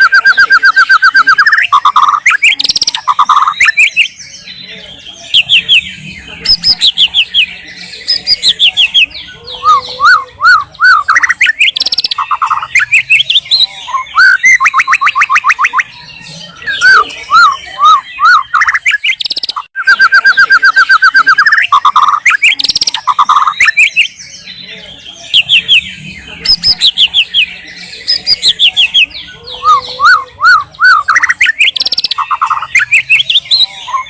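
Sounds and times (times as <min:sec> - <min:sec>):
bird singing varied song: 0:00.0 - 0:34.0.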